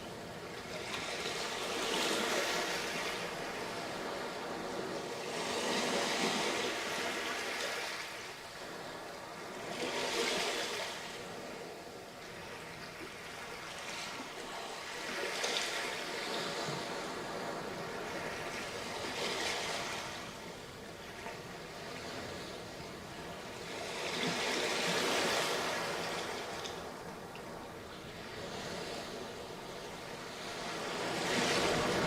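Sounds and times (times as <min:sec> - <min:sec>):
waves breaking on beach: 0:00.0 - 0:32.0.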